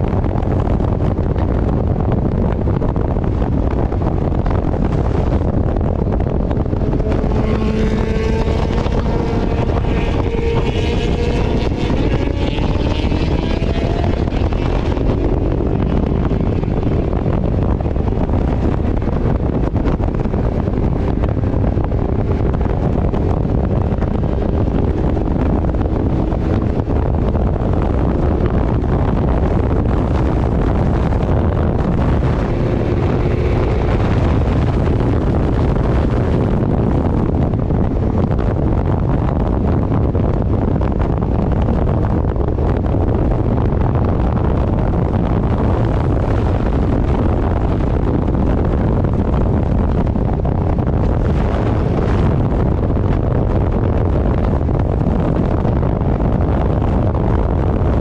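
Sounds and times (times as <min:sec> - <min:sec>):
faint motorcycle engine: 0:00.0 - 0:55.7
wind buffeting microphone: 0:00.0 - 0:58.0.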